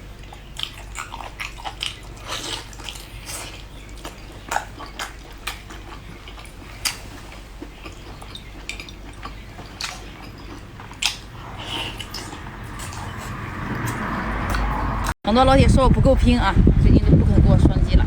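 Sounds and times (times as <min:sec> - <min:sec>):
chewing and biting seafood: 0:00.1 - 0:15.1.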